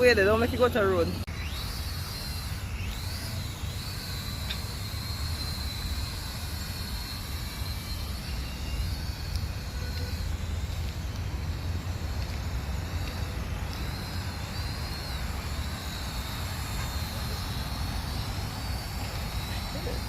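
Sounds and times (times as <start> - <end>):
toy drone propellers whining: 0.0 - 20.0.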